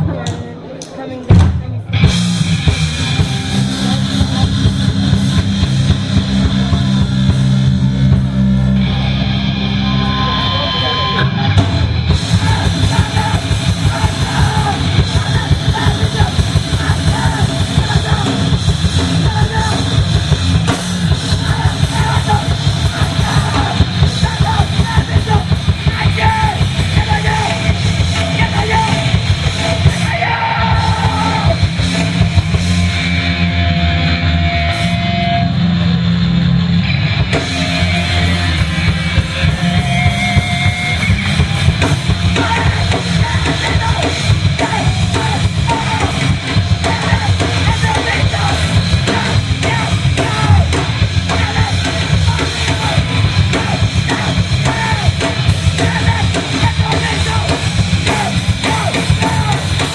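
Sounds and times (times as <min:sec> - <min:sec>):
punk vocals: 0:00.0 - 0:59.9
fast drum kit: 0:01.3 - 0:08.8, 0:11.2 - 0:59.9
electric guitars: 0:01.8 - 0:59.9.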